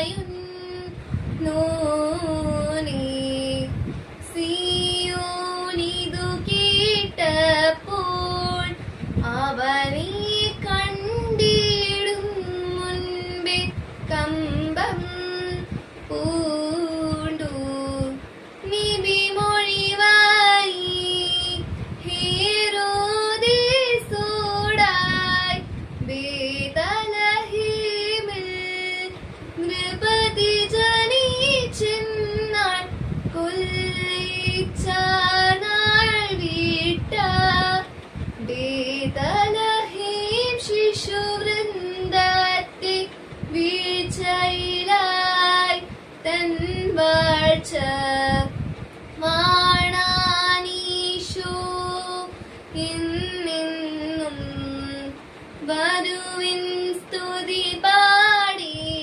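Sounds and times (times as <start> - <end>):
girl singing hymn unaccompanied: 0.0 - 59.0.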